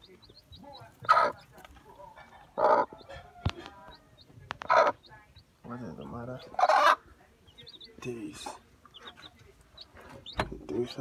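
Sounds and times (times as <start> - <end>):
hen clucking loudly: 0.0 - 5.1, 5.8 - 10.4
chicks peeping: 0.0 - 11.0.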